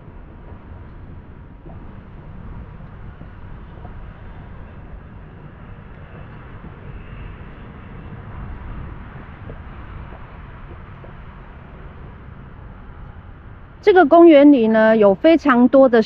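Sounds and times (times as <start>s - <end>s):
distant traffic: 0.0s - 16.0s.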